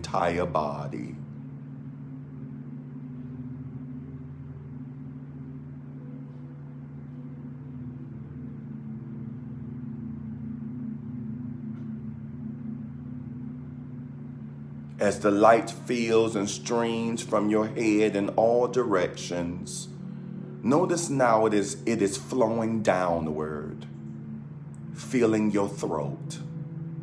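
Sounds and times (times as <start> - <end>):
ambient meditation music drone: 0.0 - 27.0.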